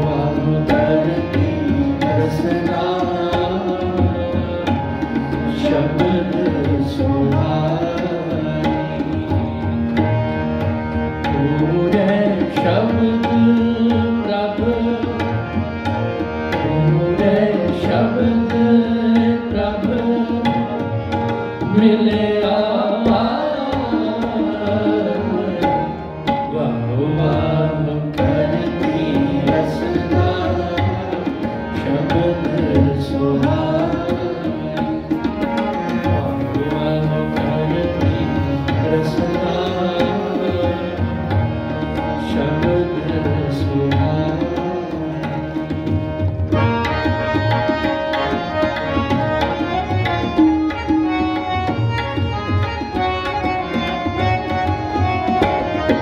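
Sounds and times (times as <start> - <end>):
harmonium chords: 0.0 - 56.0
person singing devotional song: 0.0 - 56.0
tabla rhythm: 0.0 - 56.0.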